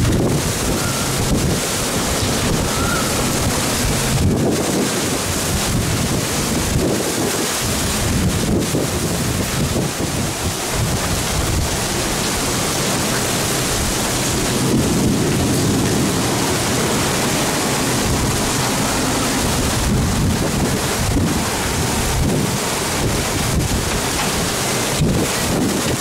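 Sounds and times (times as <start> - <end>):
heavy rain pouring: 0.0 - 26.0
wind rumbling on microphone: 0.0 - 26.0.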